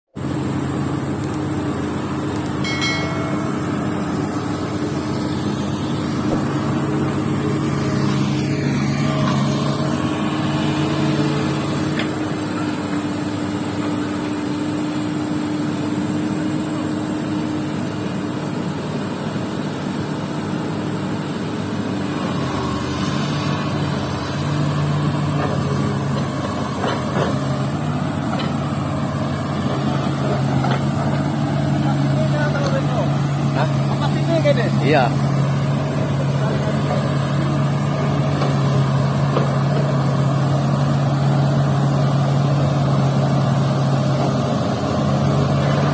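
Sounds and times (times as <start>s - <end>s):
excavator diesel engine running: 0.2s - 45.9s.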